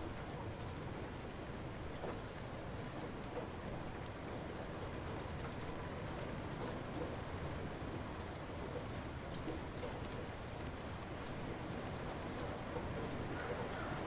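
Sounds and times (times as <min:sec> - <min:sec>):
light rain patter: 0:00.0 - 0:14.0.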